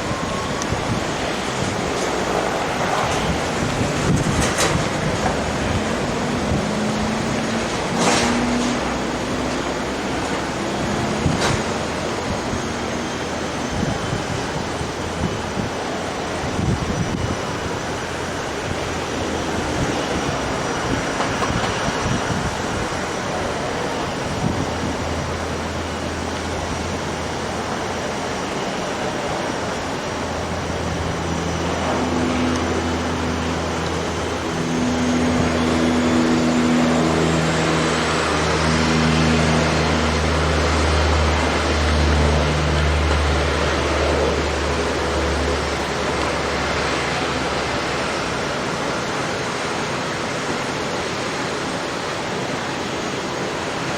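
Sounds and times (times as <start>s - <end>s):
jet engines rushing: 0.0s - 53.9s.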